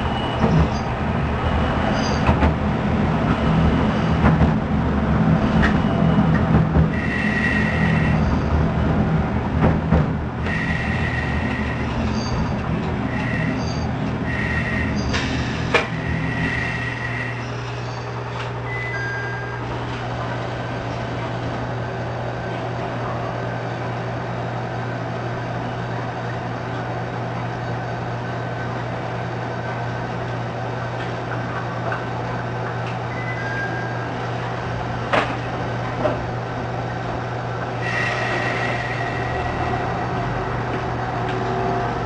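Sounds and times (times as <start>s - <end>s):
diesel railcar engine droning: 0.0s - 42.0s.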